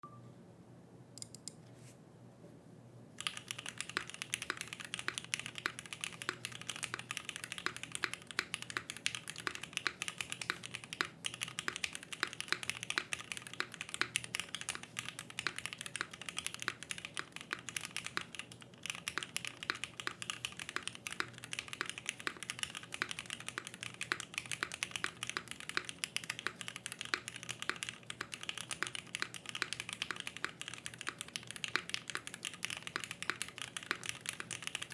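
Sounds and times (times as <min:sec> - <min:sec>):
mechanical keyboard typing: 0:01.2 - 0:01.6, 0:03.2 - 0:34.9.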